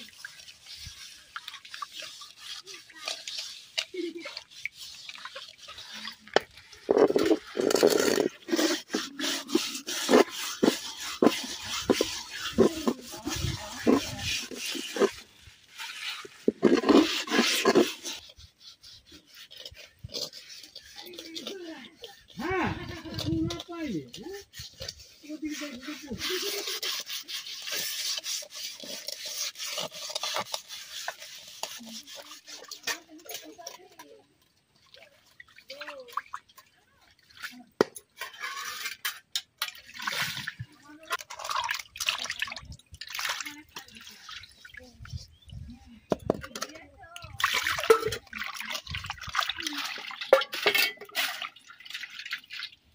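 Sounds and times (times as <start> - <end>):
pot scrubbing with leaves: 0.0 - 52.9
water sloshing in a metal pan: 0.0 - 52.9.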